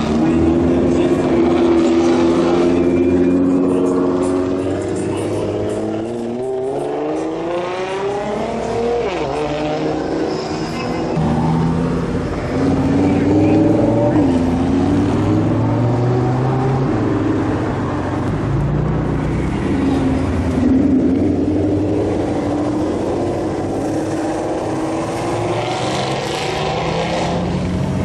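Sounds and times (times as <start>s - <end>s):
car engines accelerating: 0.0s - 28.0s.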